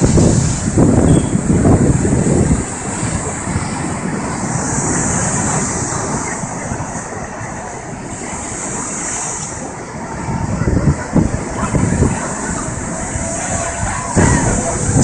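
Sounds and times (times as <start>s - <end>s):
storm waves breaking: 0.0s - 15.0s.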